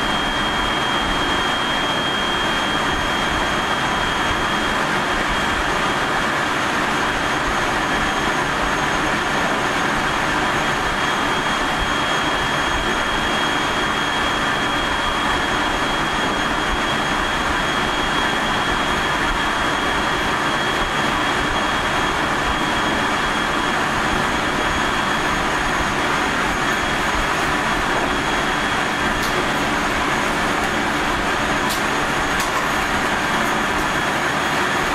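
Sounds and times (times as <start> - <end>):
high traction motor whine: 0.0 - 34.9.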